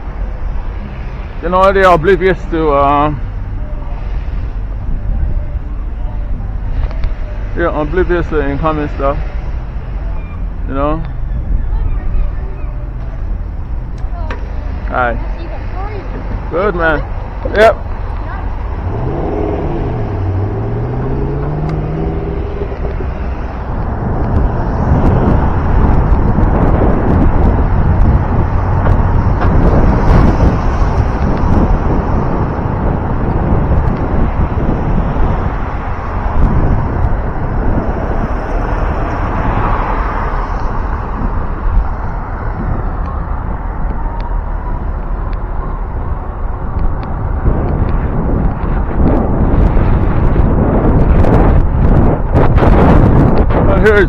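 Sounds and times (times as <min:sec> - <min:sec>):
car engine accelerating: 0:00.0 - 0:54.0
street traffic: 0:00.0 - 0:54.0
vehicle passing by: 0:00.0 - 0:54.0
wind on microphone: 0:00.0 - 0:54.0.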